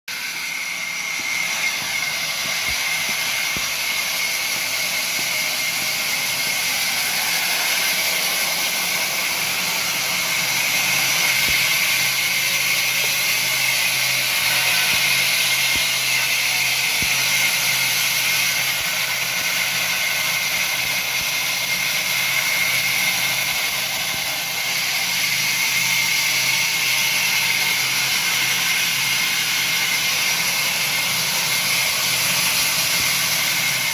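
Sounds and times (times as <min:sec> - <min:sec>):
wood-cutting machine running: 0:00.1 - 0:33.9.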